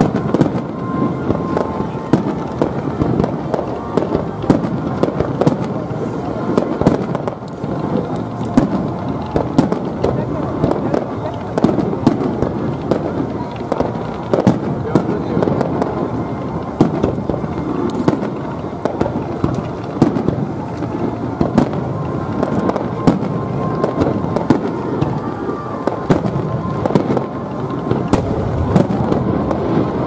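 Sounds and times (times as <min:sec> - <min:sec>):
continuous low rumble: 0:00.0 - 0:30.0
firework shells bursting: 0:00.0 - 0:30.0.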